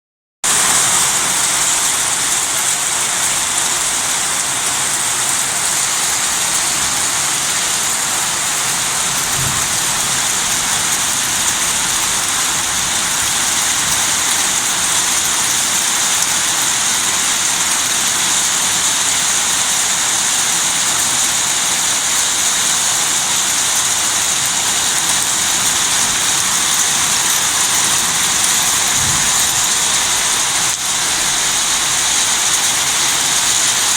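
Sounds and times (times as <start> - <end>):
torrential water rushing: 0.5 - 33.9.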